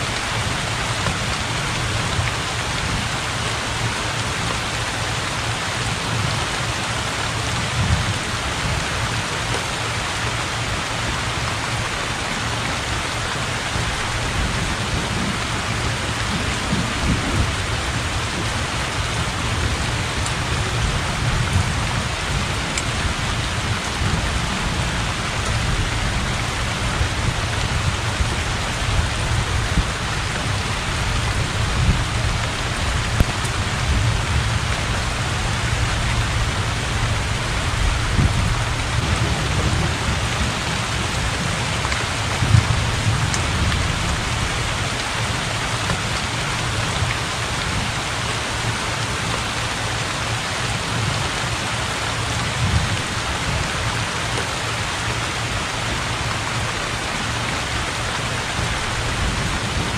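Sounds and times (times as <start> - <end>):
heavy rain on water and roof: 0.0 - 59.9.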